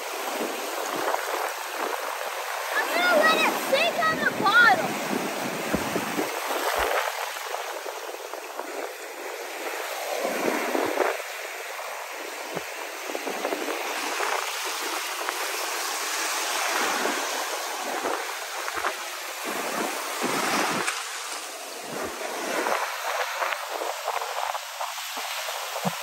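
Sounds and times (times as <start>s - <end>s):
ocean surf washing onto beach: 0.0s - 26.0s
wind gusting on microphone: 0.1s - 26.0s.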